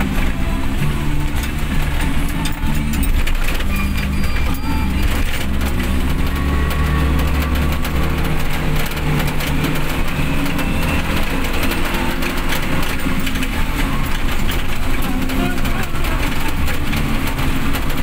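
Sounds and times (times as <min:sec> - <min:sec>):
van engine hum: 0:00.0 - 0:18.0.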